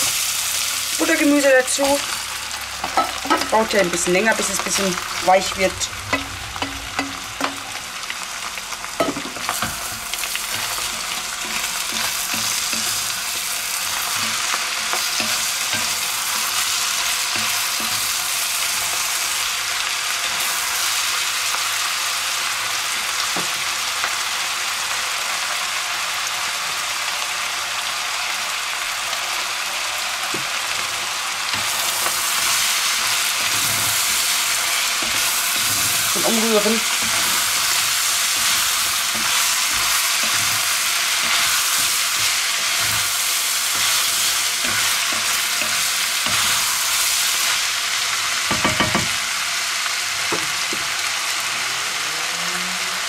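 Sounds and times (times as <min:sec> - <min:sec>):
meat and onions sizzling: 0:00.0 - 0:52.2.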